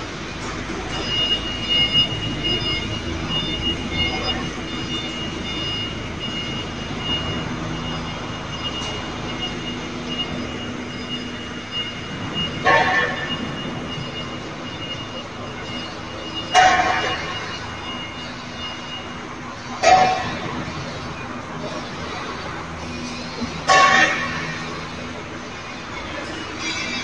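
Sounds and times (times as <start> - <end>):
machinery hum: 0.0 - 27.0
high electronic beeping: 0.2 - 27.0.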